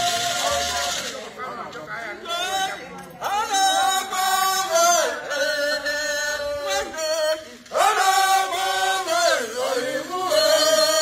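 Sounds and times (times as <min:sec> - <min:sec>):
chanting voice: 0:02.2 - 0:11.0.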